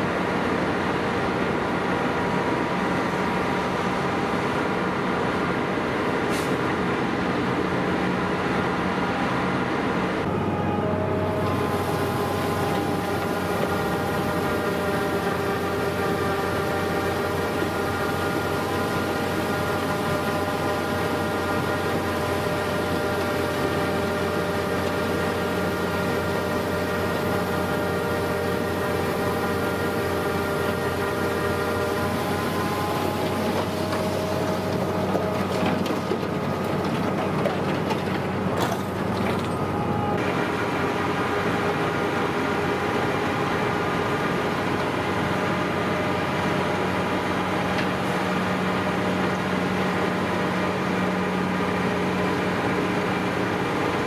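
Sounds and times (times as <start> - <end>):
snowblower engine droning: 0.0 - 54.0.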